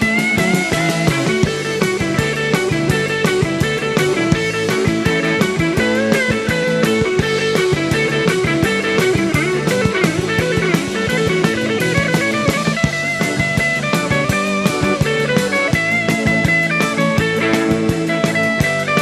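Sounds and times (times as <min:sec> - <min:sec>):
drum kit: 0:00.0 - 0:19.0
electric guitar: 0:00.0 - 0:19.0.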